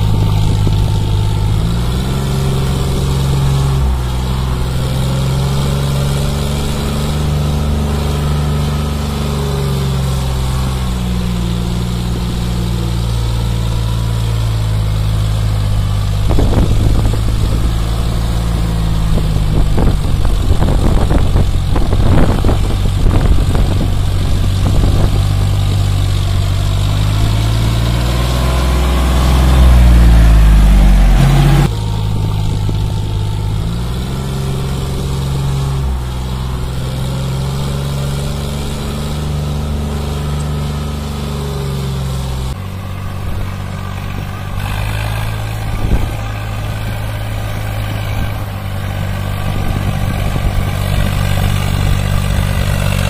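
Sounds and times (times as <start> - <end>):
tractor diesel engine: 0.0 - 53.0.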